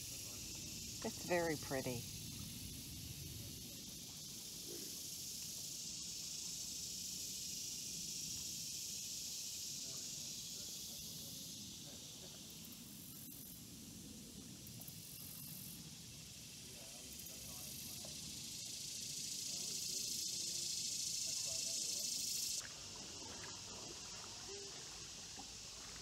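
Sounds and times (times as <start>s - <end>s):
high outdoor hiss: 0.0s - 26.0s.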